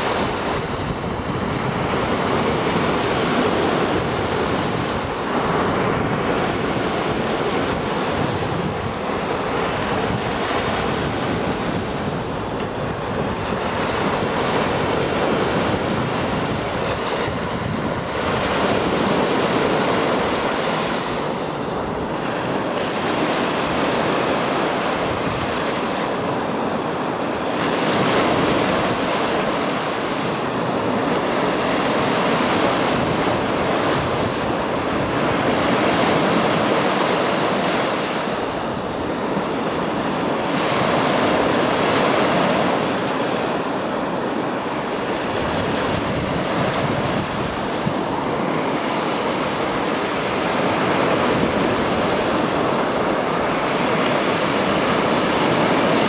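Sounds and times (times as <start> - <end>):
lake waves washing on shore: 0.0 - 56.0.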